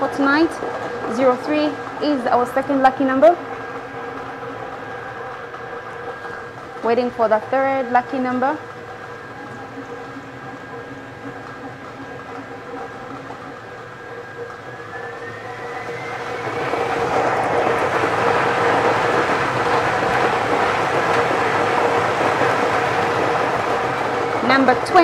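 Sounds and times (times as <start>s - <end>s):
blower humming and whining: 0.0s - 25.0s.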